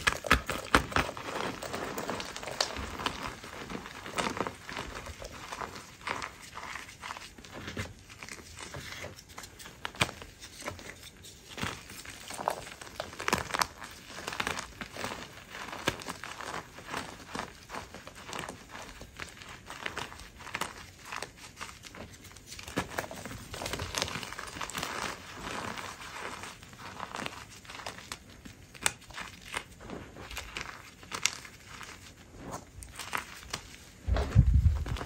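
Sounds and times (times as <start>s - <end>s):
hands crushing chalk: 0.0s - 35.0s
sharp crackles of chalk breaking: 0.0s - 35.0s.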